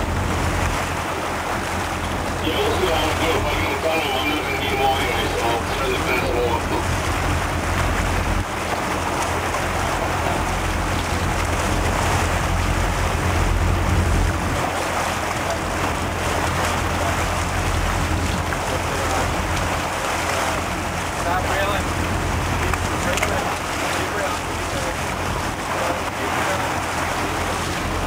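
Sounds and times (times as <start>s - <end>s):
sea water splashing against boat: 0.0s - 28.0s.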